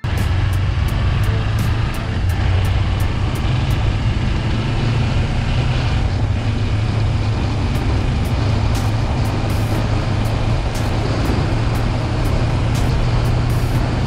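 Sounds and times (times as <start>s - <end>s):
motorcycle engine rumble: 0.0s - 14.0s
road and wind noise: 0.0s - 14.0s.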